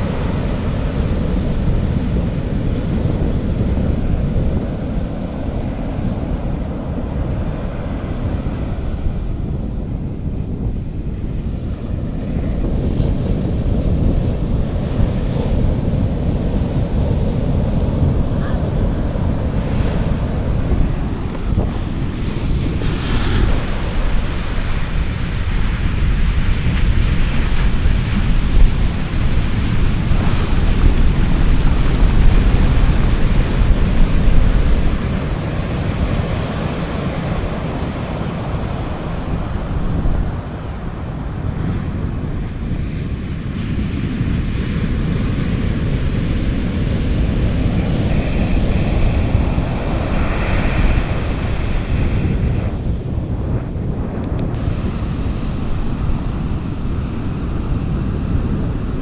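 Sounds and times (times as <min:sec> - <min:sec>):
sea waves washing onto beach: 0:00.0 - 0:59.0
wind rumble on microphone: 0:00.0 - 0:59.0.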